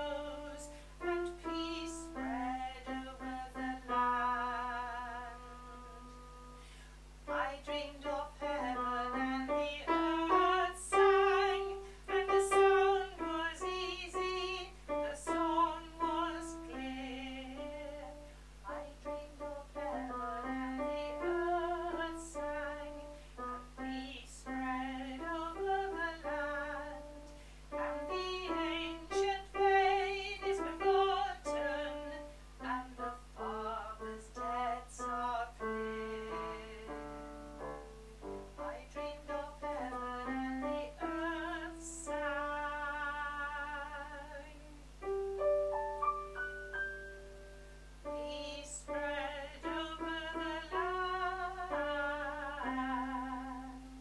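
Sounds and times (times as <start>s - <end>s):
woman singing with vibrato: 0.0s - 6.6s, 7.2s - 37.8s, 38.6s - 45.0s, 48.1s - 54.0s
piano: 0.0s - 54.0s.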